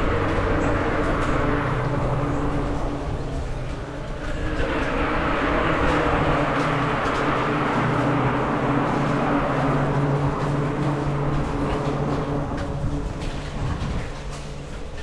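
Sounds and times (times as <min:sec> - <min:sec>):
bicycle tyre and wind rush: 0:00.0 - 0:15.0
low hum: 0:00.0 - 0:15.0.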